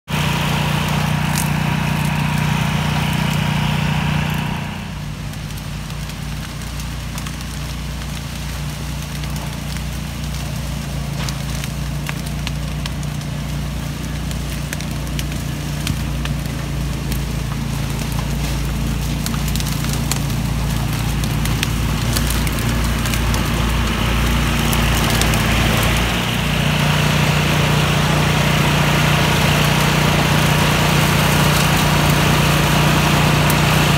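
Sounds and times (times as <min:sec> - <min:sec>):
utility vehicle engine rumble: 0:00.0 - 0:33.9
small mower engine running: 0:00.1 - 0:33.9
stems snapping: 0:00.8 - 0:03.5, 0:05.3 - 0:26.4, 0:29.6 - 0:33.9.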